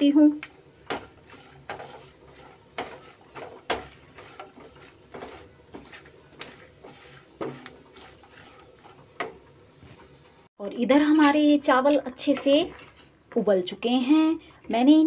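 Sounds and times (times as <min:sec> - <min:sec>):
spatula scraping a pan: 0:00.1 - 0:10.5, 0:11.1 - 0:13.5.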